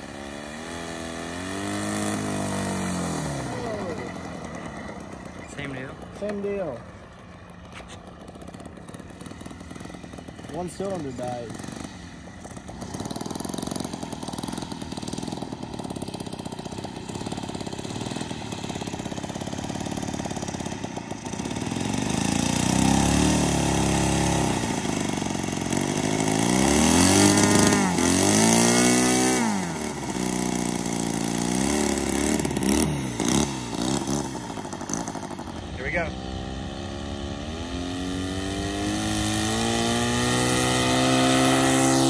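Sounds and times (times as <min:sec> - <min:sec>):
model airplane engine revving: 0:00.0 - 0:42.0.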